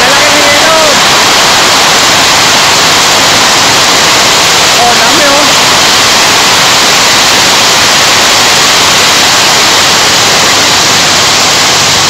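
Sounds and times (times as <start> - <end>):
torrential rain and hail: 0.0 - 12.0.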